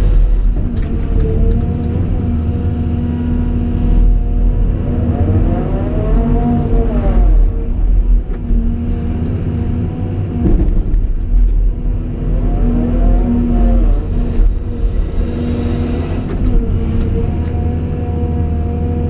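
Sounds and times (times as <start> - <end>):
excavator diesel engine drone: 0.0 - 19.0.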